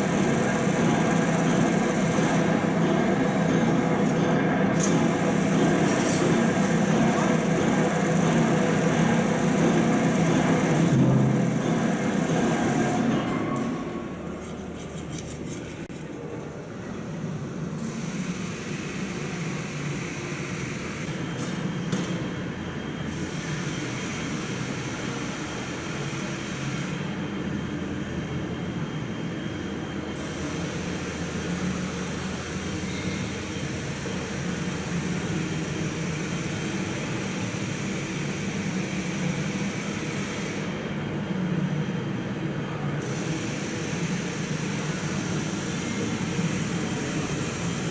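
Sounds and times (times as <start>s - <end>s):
machinery humming: 0.0s - 47.9s.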